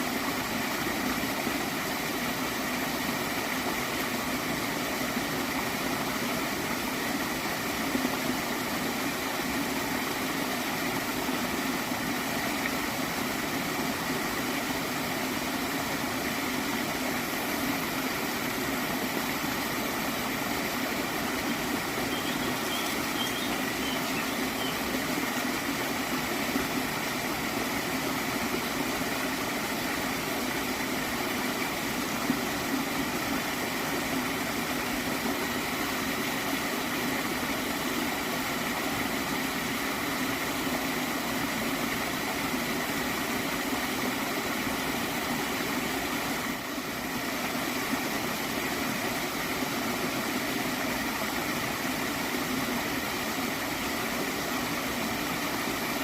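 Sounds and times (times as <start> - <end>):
water stream gurgling: 0.0 - 56.0.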